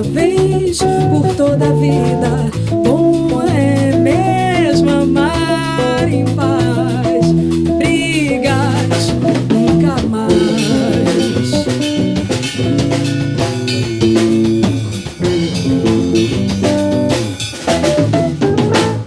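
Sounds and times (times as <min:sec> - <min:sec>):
bossa nova band playing: 0:00.0 - 0:19.0.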